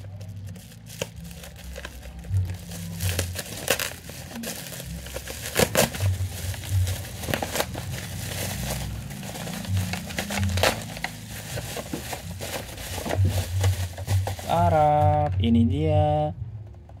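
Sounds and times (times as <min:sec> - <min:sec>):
bubble wrap crinkling: 0:00.0 - 0:15.3
background music: 0:00.0 - 0:17.0.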